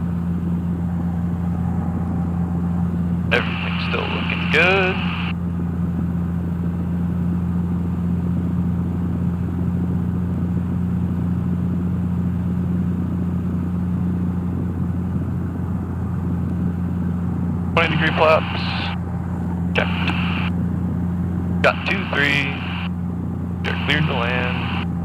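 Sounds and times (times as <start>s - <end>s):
plane engine and propeller droning: 0.0s - 25.0s.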